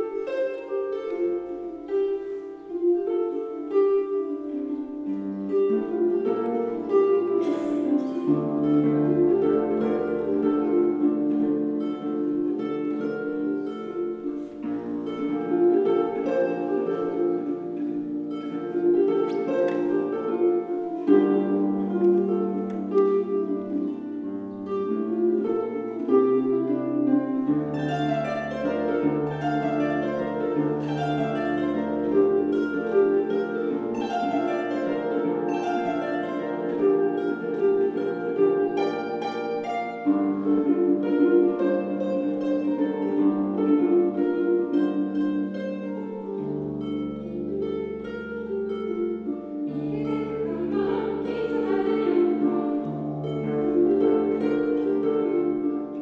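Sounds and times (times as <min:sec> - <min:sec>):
harp playing slow melody: 0:00.0 - 0:56.0.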